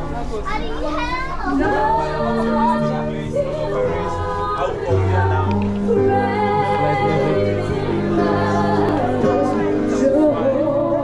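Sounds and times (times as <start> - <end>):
voices singing: 1.0 - 11.0
keyboard notes: 1.5 - 11.0
bass notes: 1.6 - 10.8.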